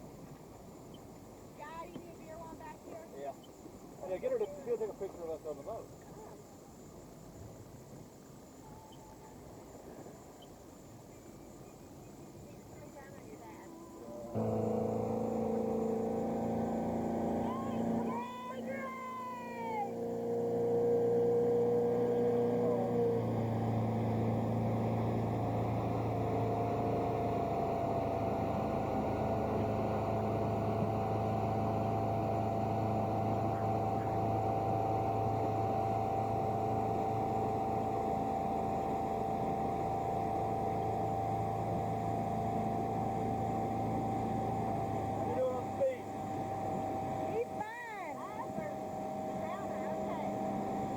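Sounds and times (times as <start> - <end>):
motorboat engine droning: 0.0 - 7.0, 11.3 - 50.9.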